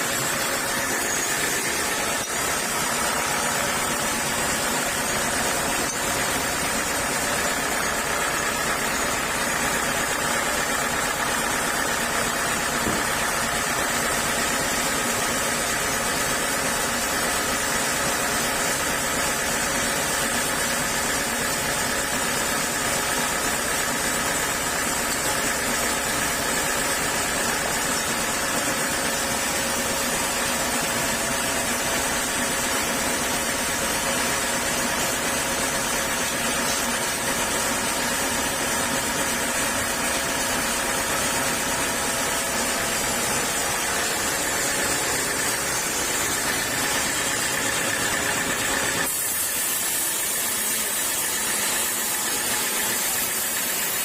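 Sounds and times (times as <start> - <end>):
saw machinery running: 0.0 - 54.0.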